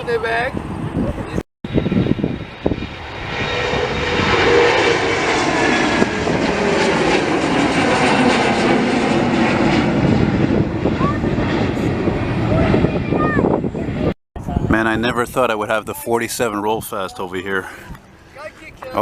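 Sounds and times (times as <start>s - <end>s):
airliner engines overhead: 0.0s - 19.0s.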